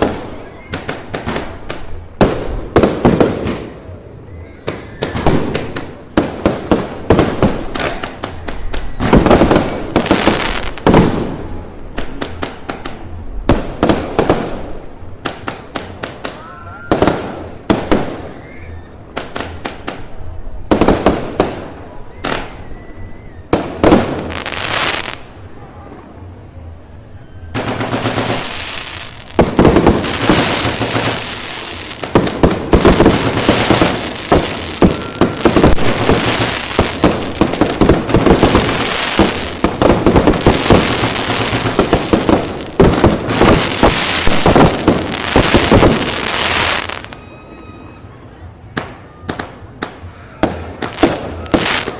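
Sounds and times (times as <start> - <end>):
firecrackers banging: 0.0 - 3.9, 4.7 - 18.4, 20.7 - 22.6, 23.5 - 25.3, 27.5 - 47.2, 48.8 - 51.9
string of firecrackers crackling: 0.0 - 22.8, 23.4 - 26.2, 27.5 - 47.3, 48.6 - 51.9.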